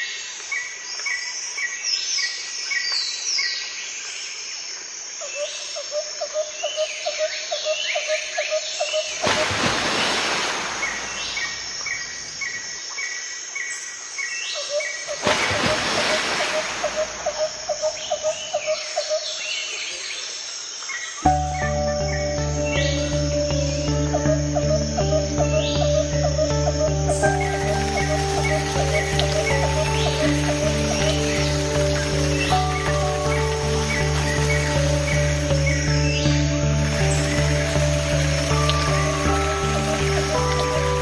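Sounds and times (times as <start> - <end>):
birds chirping and trilling: 5.3 - 41.0.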